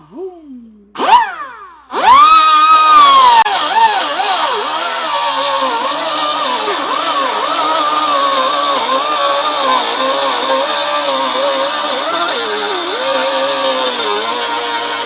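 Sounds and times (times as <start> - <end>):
rotary tool motor whine: 1.0 - 15.0.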